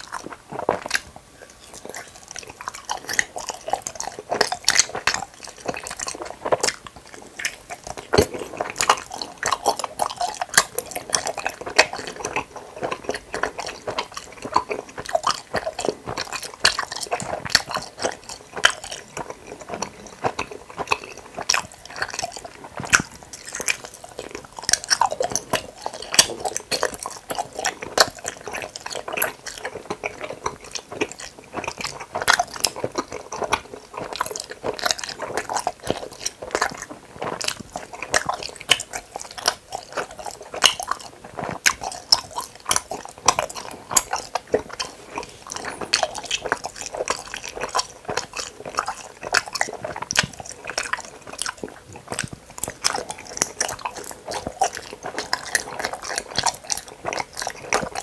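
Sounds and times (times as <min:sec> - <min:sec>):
chewing gummy candies: 0:00.0 - 0:58.0.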